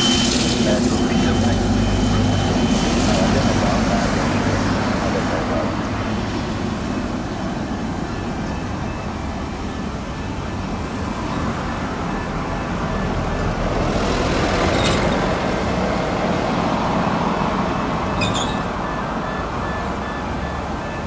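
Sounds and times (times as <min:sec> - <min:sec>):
jet engines running: 0:00.0 - 0:18.1.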